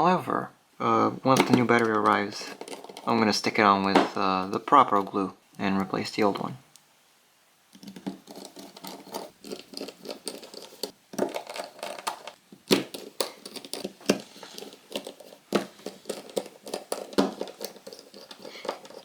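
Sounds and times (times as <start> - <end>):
hands handling smartphone parts: 1.2 - 6.0, 7.7 - 19.0.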